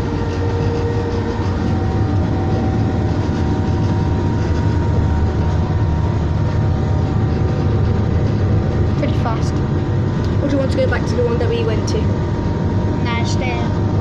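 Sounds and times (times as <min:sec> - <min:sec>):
train rumbling at speed: 0:00.0 - 0:14.0.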